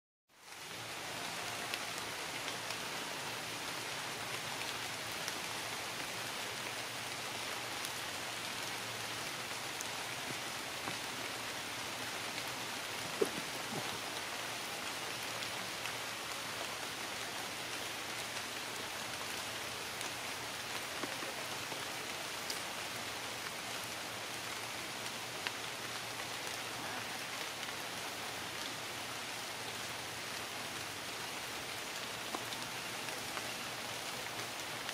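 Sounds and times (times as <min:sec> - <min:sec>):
steady rain falling: 0:00.3 - 0:34.9.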